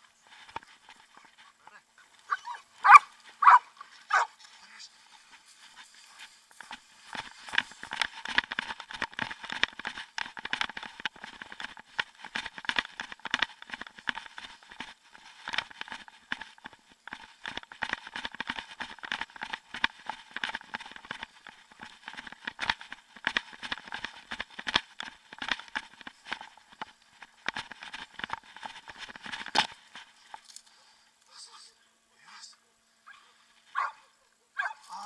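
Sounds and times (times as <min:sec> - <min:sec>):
clothing rustling: 0:00.0 - 0:30.6
brisk footsteps: 0:00.0 - 0:30.7.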